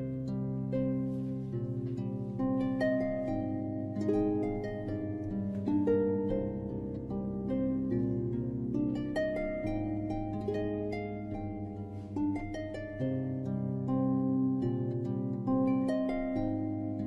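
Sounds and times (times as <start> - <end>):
plucked harp-like melody: 0.0 - 17.0.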